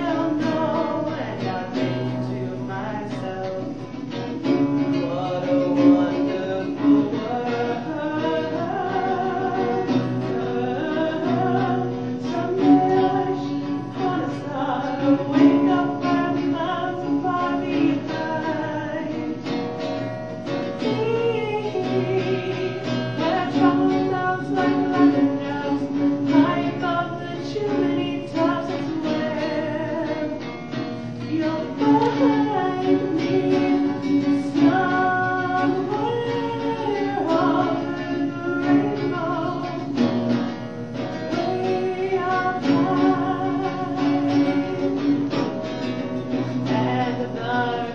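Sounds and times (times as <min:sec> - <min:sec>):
person singing: 0:00.0 - 0:47.9
strummed acoustic guitar: 0:00.0 - 0:47.9.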